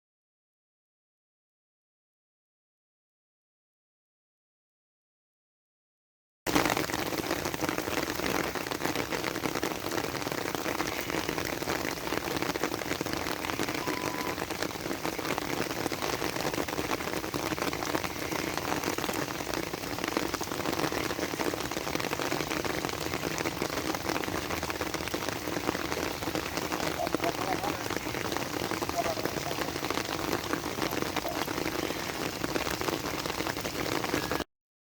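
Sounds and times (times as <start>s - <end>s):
heavy rain on hard surfaces: 6.5s - 34.5s.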